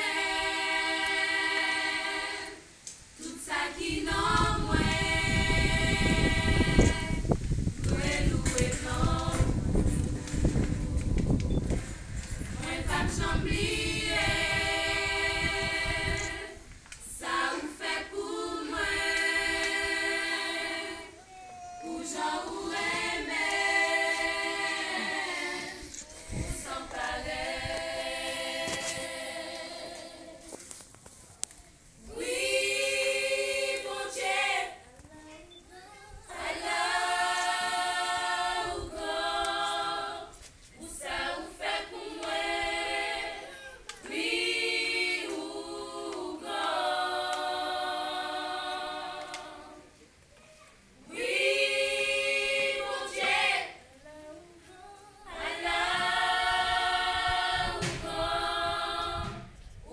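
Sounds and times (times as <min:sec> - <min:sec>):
women singing a cappella: 0:00.0 - 0:30.9, 0:31.8 - 0:50.2, 0:50.8 - 0:59.9.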